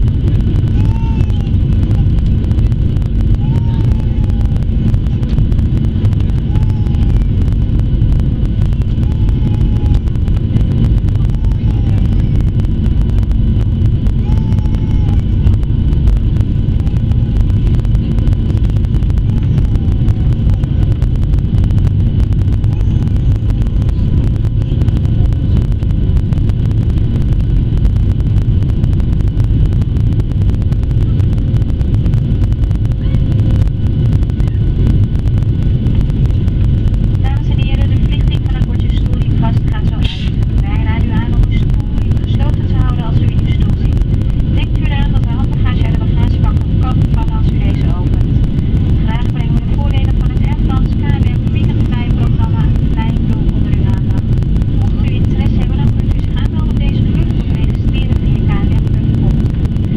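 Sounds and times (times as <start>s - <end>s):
airplane cabin engine rumble: 0.0s - 59.9s
faint whining tones: 0.0s - 59.9s.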